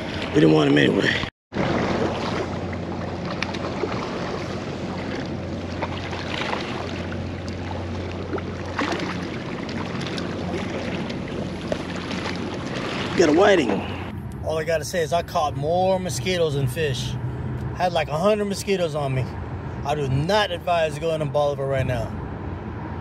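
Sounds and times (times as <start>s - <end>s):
boat engine drone: 0.0s - 23.0s
wind and water noise: 0.0s - 23.0s.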